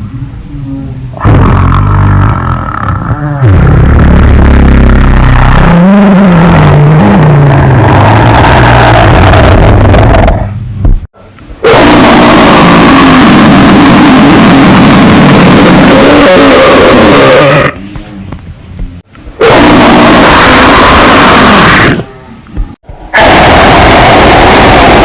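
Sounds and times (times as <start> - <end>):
distorted monster roaring: 0.6 - 10.5, 11.6 - 17.8, 19.4 - 22.1, 23.1 - 25.0.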